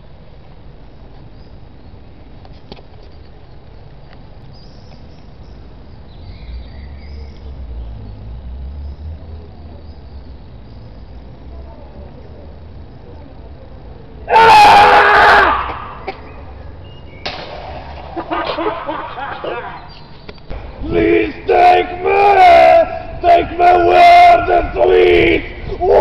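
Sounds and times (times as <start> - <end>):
urban background noise: 0.0 - 26.0.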